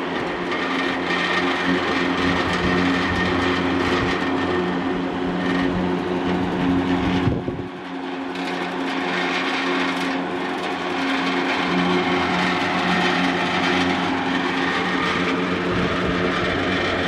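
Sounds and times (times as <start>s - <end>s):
air rushing through fan louvers: 0.0s - 17.0s
exhaust fan motor hum: 0.0s - 17.0s.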